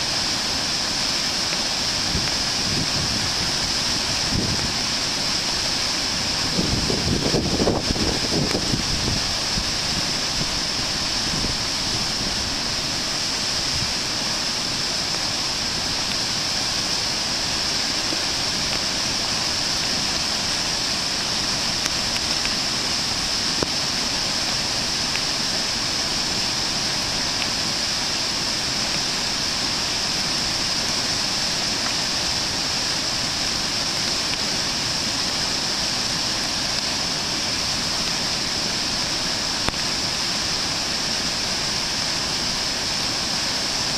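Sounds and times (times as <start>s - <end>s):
water rushing over dam: 0.0s - 43.9s.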